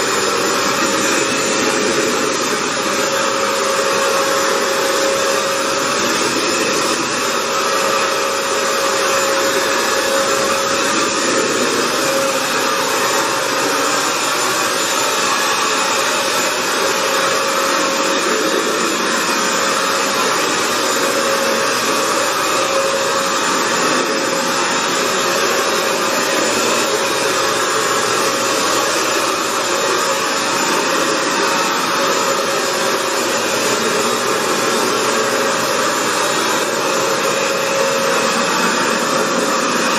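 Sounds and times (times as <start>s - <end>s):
floor cleaner suction motor whine: 0.0s - 39.9s.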